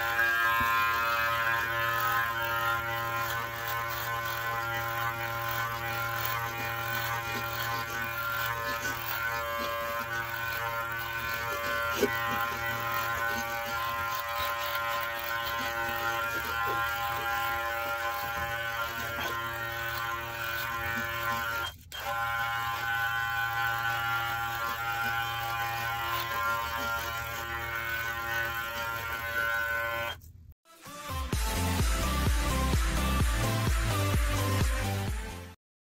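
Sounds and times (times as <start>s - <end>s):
hair clipper buzzing: 0.0s - 30.3s.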